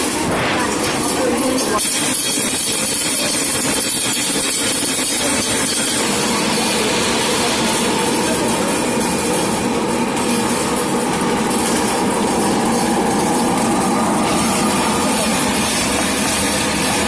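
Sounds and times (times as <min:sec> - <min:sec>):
machinery running loudly: 0:00.0 - 0:17.0.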